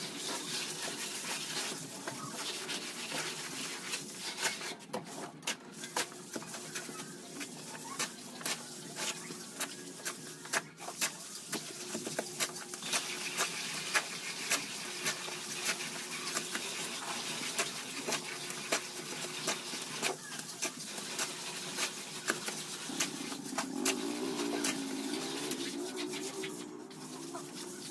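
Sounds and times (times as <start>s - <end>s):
trowel scraping concrete: 0.0s - 27.9s.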